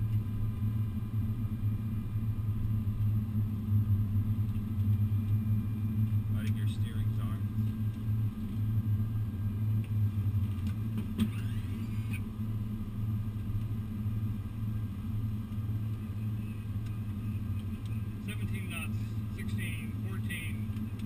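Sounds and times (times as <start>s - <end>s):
airliner cockpit rumble and hum: 0.0s - 21.0s.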